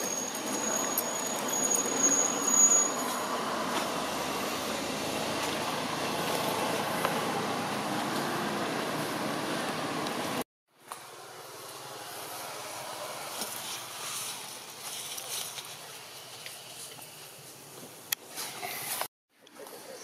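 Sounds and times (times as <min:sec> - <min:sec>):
outdoor background rush: 0:00.0 - 0:20.0.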